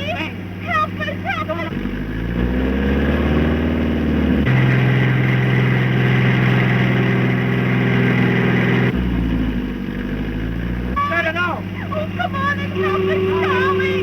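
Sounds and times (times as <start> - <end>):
motor vehicle engine running: 0.0 - 14.0.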